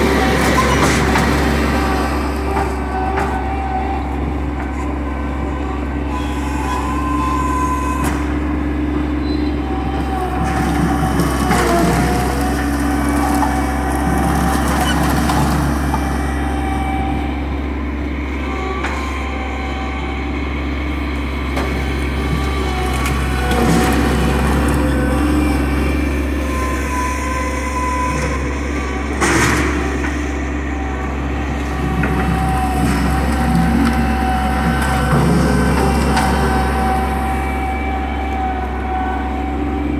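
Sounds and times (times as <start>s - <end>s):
loader engine running: 0.0s - 39.9s.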